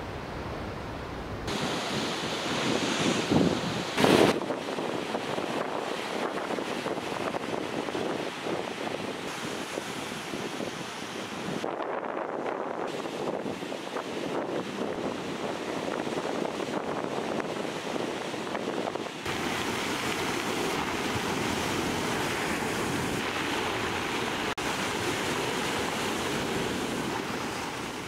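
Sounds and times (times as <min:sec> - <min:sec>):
surf washing up pebble beach: 0:01.5 - 0:11.6, 0:12.8 - 0:28.0
sea waves breaking over rocks: 0:01.5 - 0:28.0.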